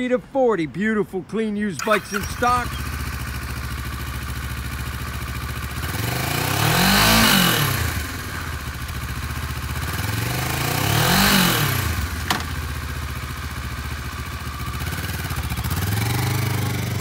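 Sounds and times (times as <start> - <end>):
motorcycle engine idling and revving: 1.8 - 17.0.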